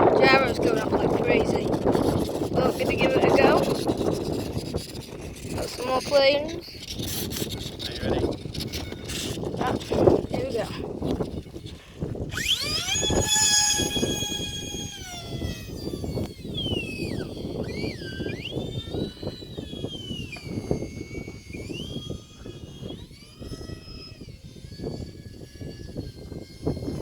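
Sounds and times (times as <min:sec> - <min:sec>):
model jet fans whining: 0:00.0 - 0:27.0
wind buffeting microphone: 0:00.0 - 0:27.0.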